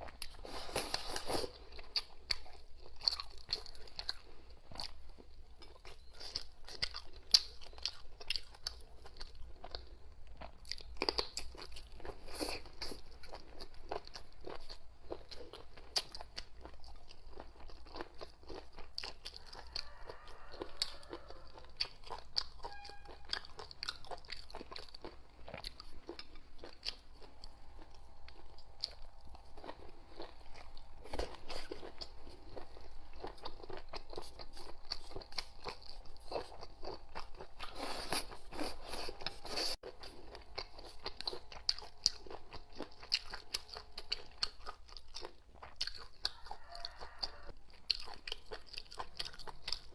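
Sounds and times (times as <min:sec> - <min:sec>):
person crunching and chewing: 0:00.0 - 0:49.9.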